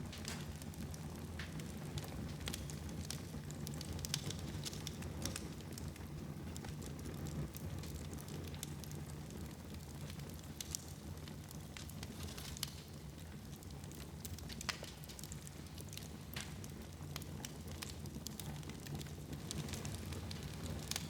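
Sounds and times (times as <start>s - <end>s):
fire burning in fireplace: 0.0s - 21.0s.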